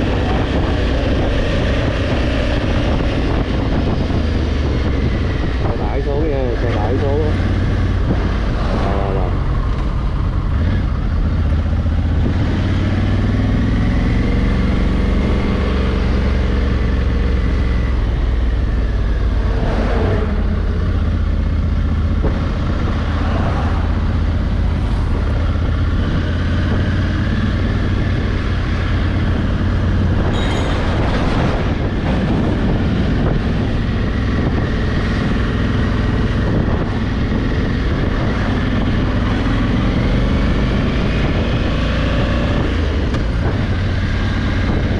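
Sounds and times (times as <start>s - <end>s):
motorcycle engine revving: 0.0s - 44.9s
passing traffic: 0.0s - 44.9s
wind rush: 0.0s - 44.9s.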